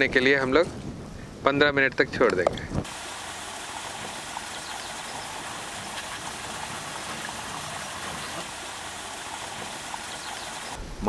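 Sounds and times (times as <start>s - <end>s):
even outdoor hiss: 0.0s - 11.0s.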